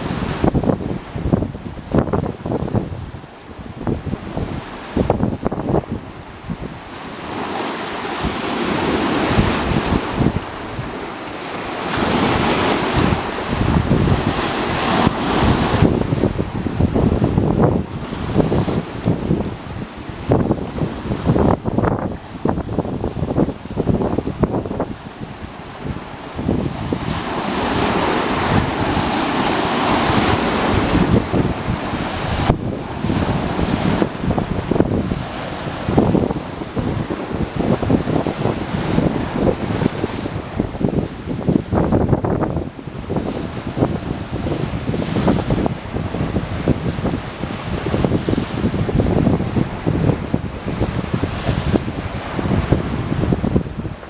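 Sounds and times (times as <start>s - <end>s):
waves washing in: 0.0s - 54.0s
wind buffeting microphone: 0.0s - 54.0s.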